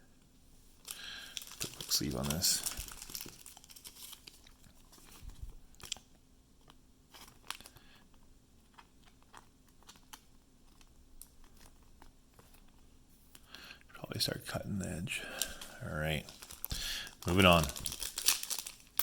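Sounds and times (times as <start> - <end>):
cards clicking and crinkling: 0.8 - 12.8, 15.4 - 19.0.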